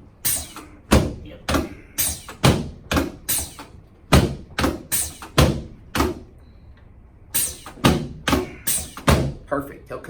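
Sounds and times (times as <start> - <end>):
sharp thuds of chiropractic adjustment: 0.2 - 6.3, 7.4 - 9.5.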